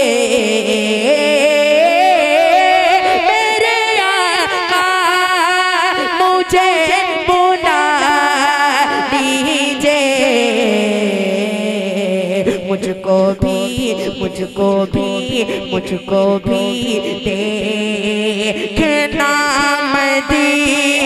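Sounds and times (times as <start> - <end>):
boy singing through microphone: 0.0 - 21.0.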